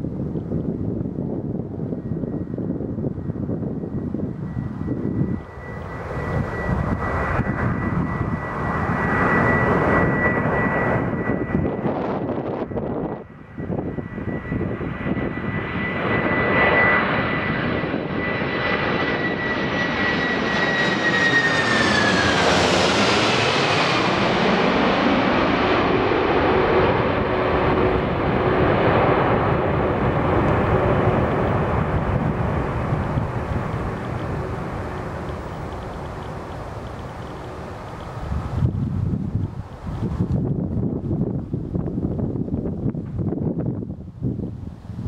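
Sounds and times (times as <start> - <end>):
jet passing low overhead: 0.0 - 45.0.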